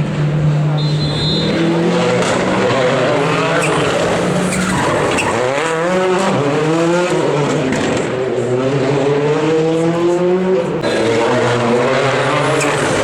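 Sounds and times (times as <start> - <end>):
rally car engine high revs: 0.0 - 13.0.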